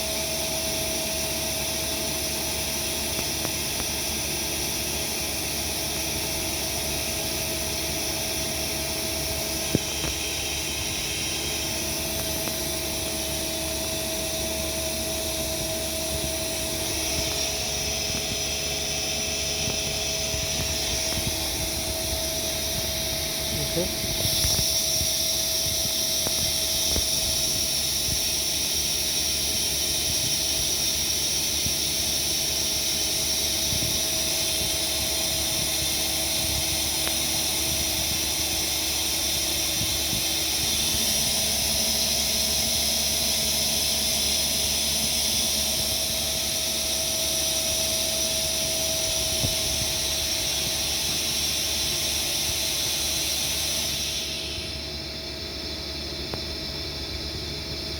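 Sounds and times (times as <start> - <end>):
lathe machine hum: 4.0 - 57.9.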